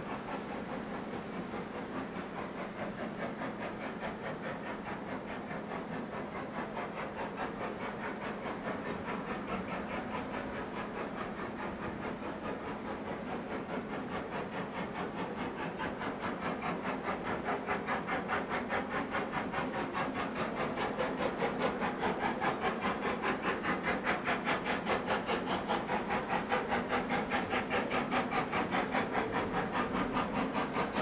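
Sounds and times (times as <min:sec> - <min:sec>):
steam locomotive exhaust beats: 0:00.0 - 0:31.0.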